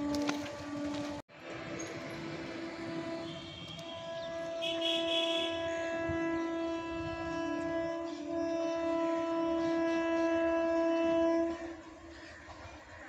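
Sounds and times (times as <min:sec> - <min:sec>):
train horn: 0:00.0 - 0:01.2, 0:02.4 - 0:12.8.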